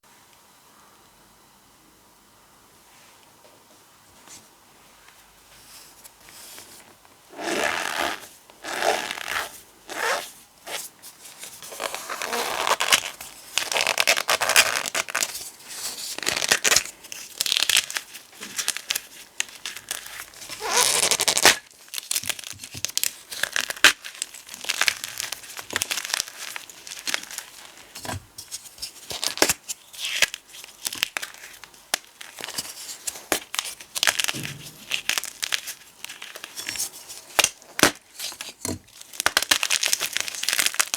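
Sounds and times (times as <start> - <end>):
powder crunching and squeaking: 7.4 - 40.9.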